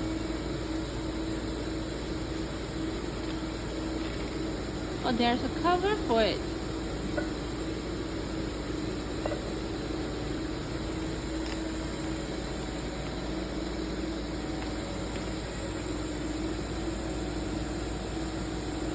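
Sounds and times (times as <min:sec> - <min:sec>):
factory machinery humming: 0:01.2 - 0:18.9.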